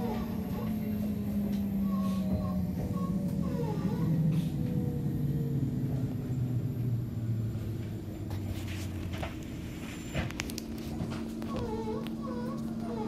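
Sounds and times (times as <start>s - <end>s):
train motors whining: 0.0s - 13.0s
train running rumble: 0.0s - 13.0s.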